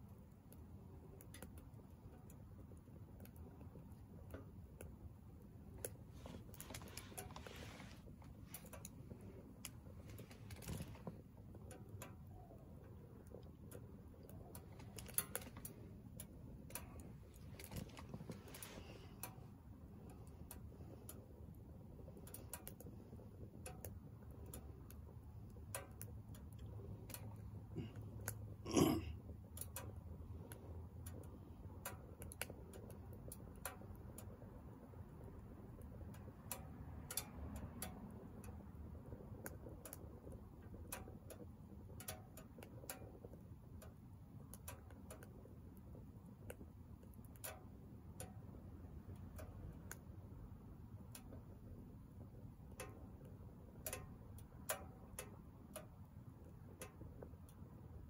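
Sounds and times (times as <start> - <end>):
low rumble of fire: 0.0 - 58.0
wood fire crackling: 0.0 - 58.0.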